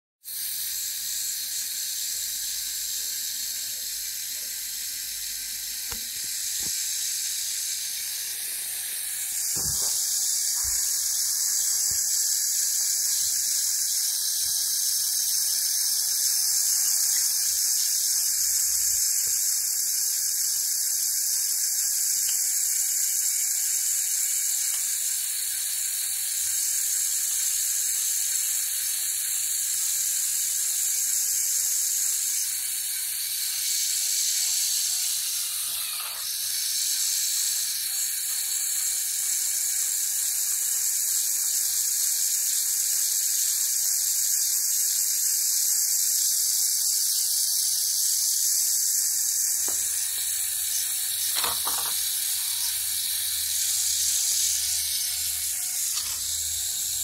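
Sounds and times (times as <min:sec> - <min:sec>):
electric motors and gears whining: 0:00.3 - 0:57.0.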